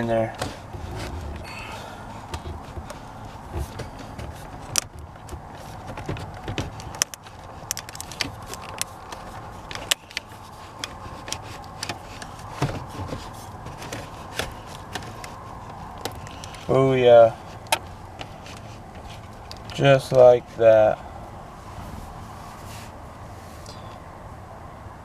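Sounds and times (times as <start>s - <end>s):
car stereo clicking and scraping: 0.0s - 24.0s.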